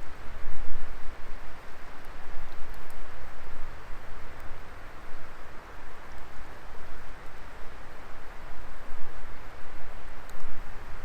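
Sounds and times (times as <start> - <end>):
faint fire crackle: 0.0 - 11.0.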